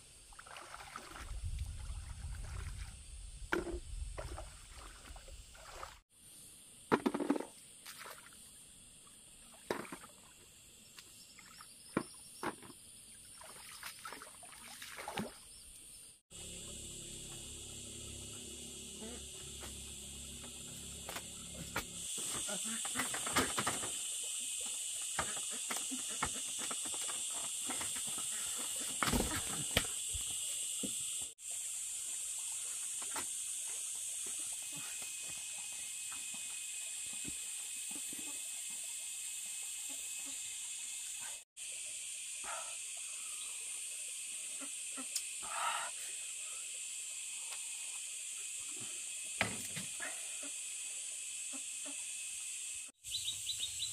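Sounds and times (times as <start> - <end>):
high-pitched insect chorus: 0.0 - 53.9.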